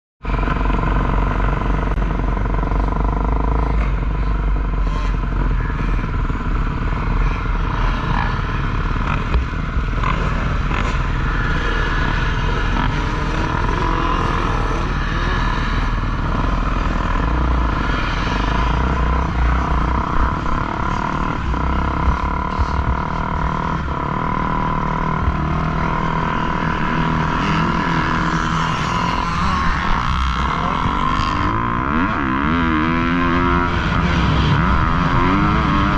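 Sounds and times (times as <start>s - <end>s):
dirt bike engines running: 0.2s - 35.9s
heavy low rumble: 0.2s - 35.9s.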